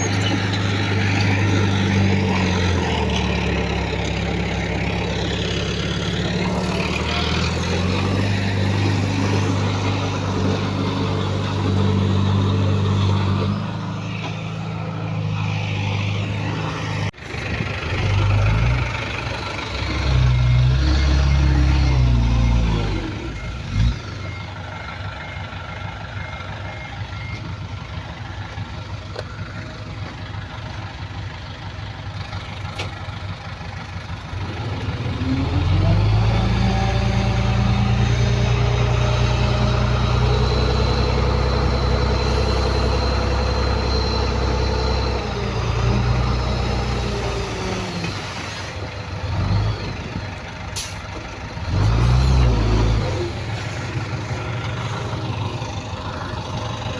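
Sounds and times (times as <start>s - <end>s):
heavy diesel engine revving: 0.0s - 27.3s, 29.4s - 56.9s.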